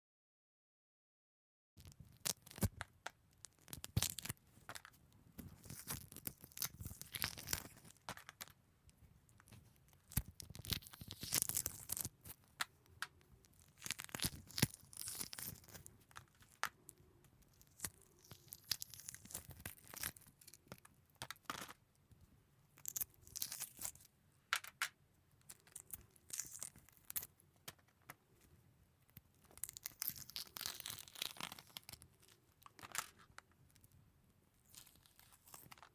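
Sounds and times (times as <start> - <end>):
eggshell cracking and peeling: 1.8 - 4.9, 5.6 - 8.6, 9.4 - 21.8, 22.8 - 28.1, 29.1 - 33.5, 34.7 - 35.9.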